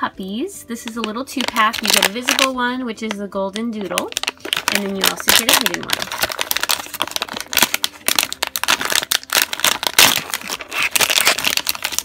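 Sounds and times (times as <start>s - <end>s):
plastic packaging crinkling: 0.8s - 12.0s.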